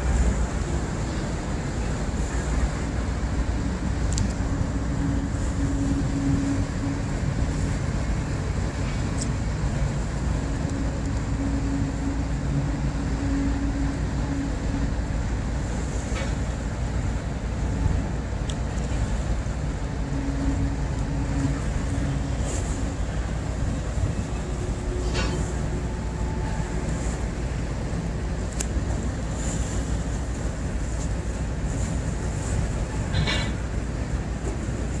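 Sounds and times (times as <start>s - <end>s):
diesel engines droning: 0.0s - 35.0s.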